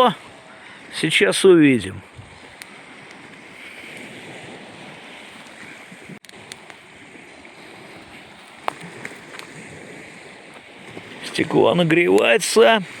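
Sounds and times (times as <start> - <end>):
small waves washing on shore: 0.0 - 13.0.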